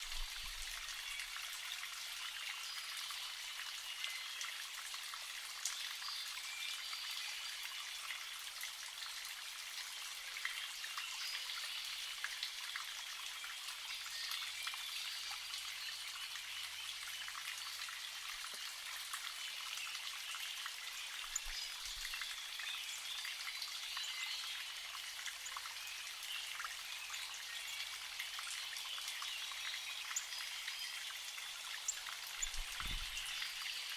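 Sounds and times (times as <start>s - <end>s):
water drips and splashes: 0.0s - 33.9s
water trickling: 0.0s - 33.9s.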